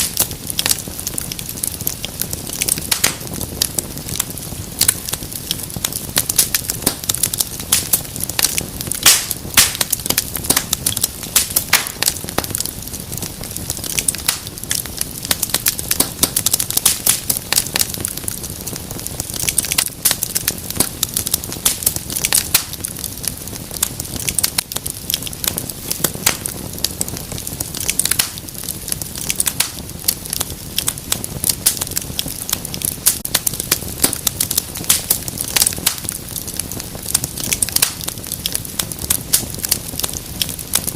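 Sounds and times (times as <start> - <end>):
hiss of flames: 0.0 - 40.9
wood fire crackling: 0.0 - 40.9.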